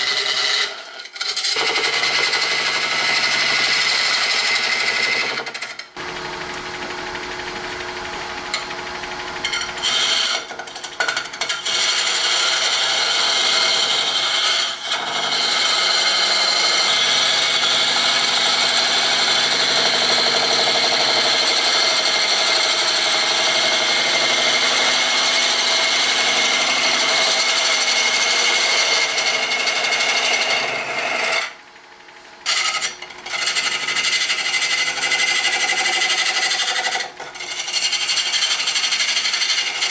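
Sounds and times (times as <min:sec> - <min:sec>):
lathe tool scraping wood: 0:00.0 - 0:07.0, 0:08.1 - 0:39.9
lathe running: 0:00.0 - 0:39.9.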